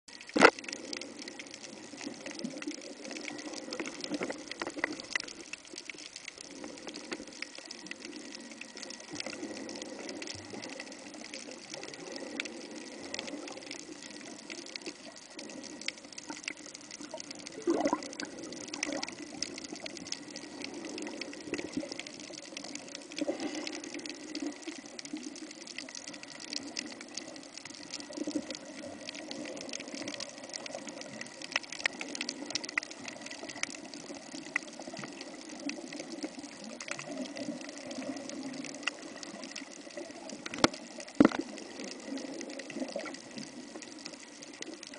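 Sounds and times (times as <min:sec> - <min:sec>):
crackle of faint clicks: 0:00.1 - 0:44.9
underwater water wash: 0:00.1 - 0:44.9.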